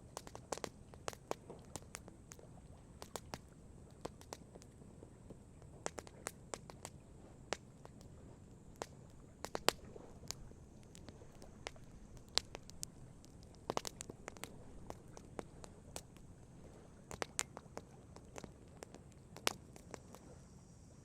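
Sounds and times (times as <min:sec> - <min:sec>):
campfire crackling: 0:00.0 - 0:20.4.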